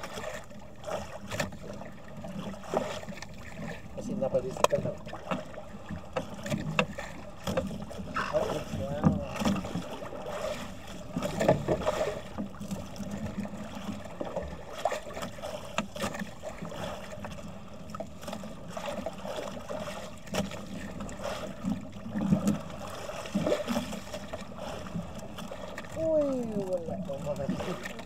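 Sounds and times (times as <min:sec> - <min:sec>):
water sloshing against hull: 0:00.0 - 0:28.0.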